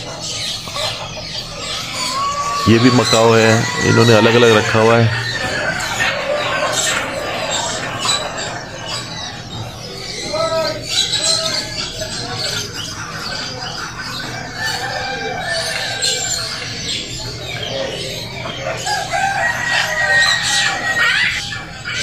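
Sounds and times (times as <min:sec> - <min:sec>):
caged birds squawking: 0:00.0 - 0:22.0.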